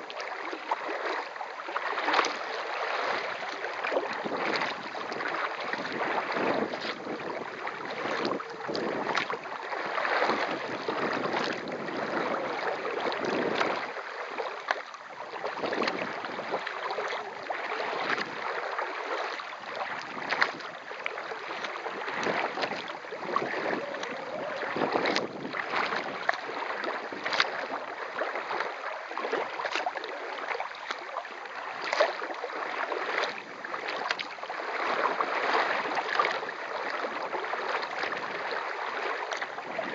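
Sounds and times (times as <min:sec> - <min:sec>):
paddle splashes: 0:00.0 - 0:39.9
steady wash of water: 0:00.0 - 0:39.9
water splashing around kayak: 0:00.0 - 0:39.9.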